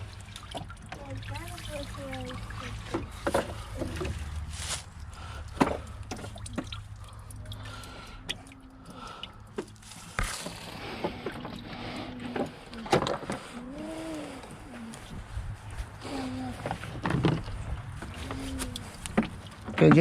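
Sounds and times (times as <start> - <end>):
low steady hum: 0.0 - 19.8.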